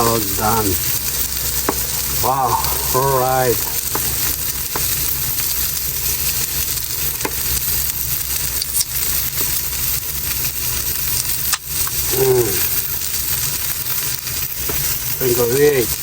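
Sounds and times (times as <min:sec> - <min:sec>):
fish sizzling in a pan: 0:00.0 - 0:16.0.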